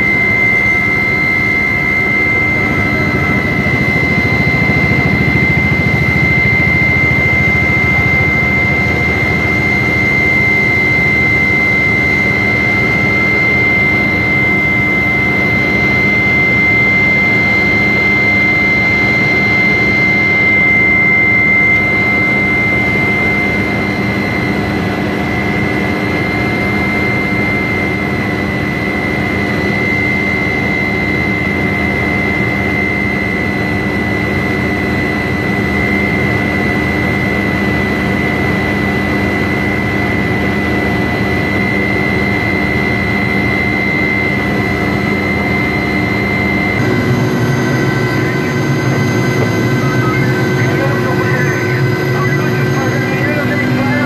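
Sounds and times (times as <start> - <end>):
aircraft engine rushing: 0.0 - 54.0
high engine whine: 0.0 - 54.0.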